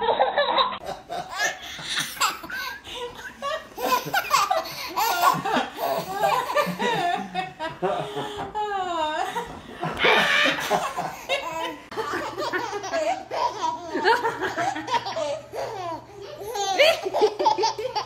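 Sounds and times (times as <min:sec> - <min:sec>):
babies laughing: 0:00.0 - 0:18.0.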